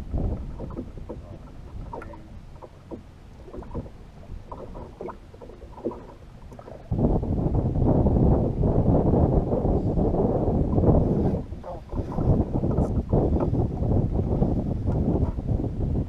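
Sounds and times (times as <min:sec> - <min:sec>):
waves lapping against boat hull: 0:00.0 - 0:16.0
wind on microphone: 0:00.0 - 0:16.0.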